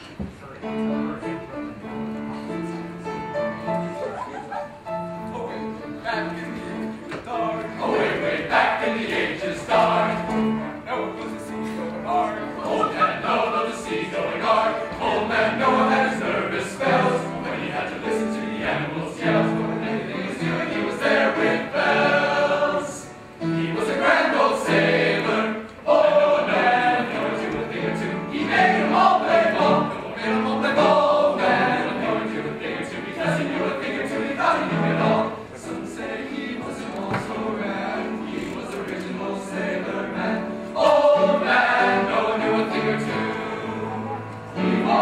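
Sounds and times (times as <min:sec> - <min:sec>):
piano accompaniment: 0:00.0 - 0:45.0
men's choir singing gospel: 0:05.4 - 0:45.0.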